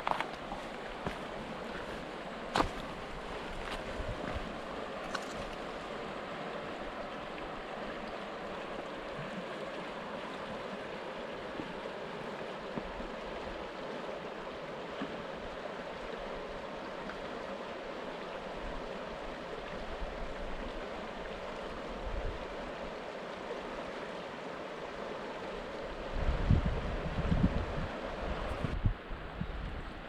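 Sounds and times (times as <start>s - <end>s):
river rushing over rocks: 0.0s - 29.3s.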